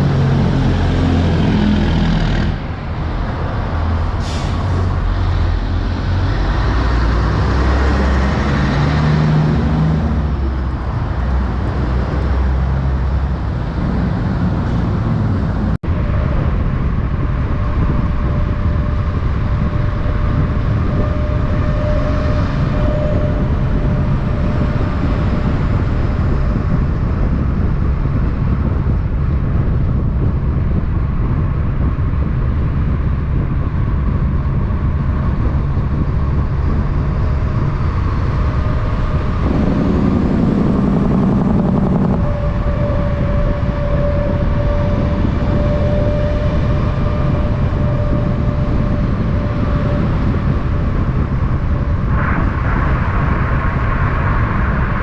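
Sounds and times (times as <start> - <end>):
heavy truck traffic rumbling: 0.0 - 55.0.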